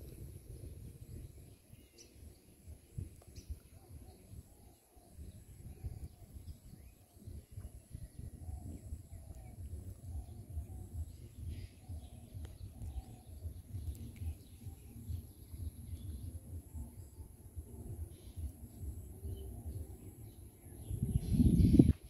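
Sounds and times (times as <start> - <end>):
faint bird chirps: 0.0 - 22.0
wind buffeting microphone: 0.0 - 22.0.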